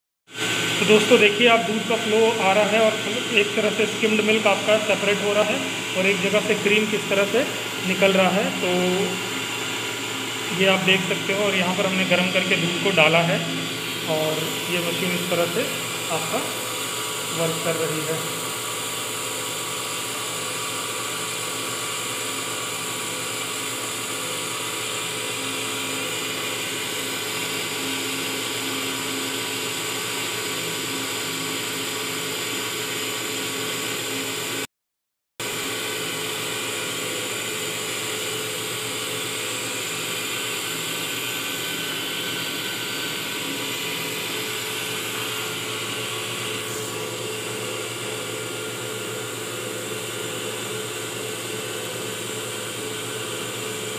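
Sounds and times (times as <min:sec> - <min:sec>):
cream separator humming and whining: 0:00.3 - 0:34.7, 0:35.4 - 0:53.9.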